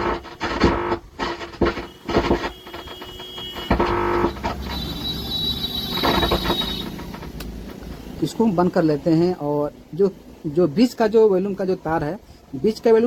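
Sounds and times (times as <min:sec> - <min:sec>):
speaker crackling and rumbling: 0:00.0 - 0:13.0
steady amplifier hum: 0:00.0 - 0:13.0.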